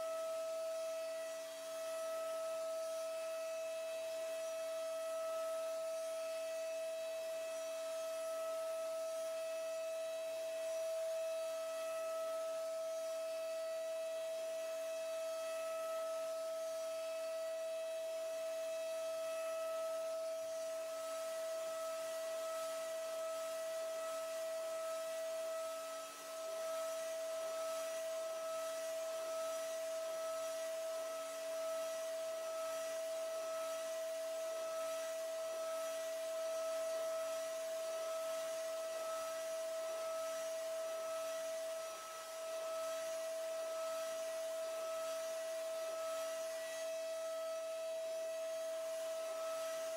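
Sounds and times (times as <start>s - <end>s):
milling machine spindle whine: 0.0s - 49.9s.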